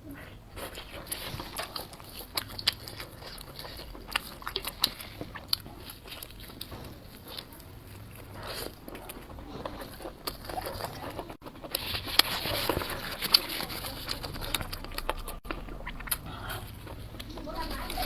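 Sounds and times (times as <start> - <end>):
food being chewed with crunches: 0.1 - 18.0.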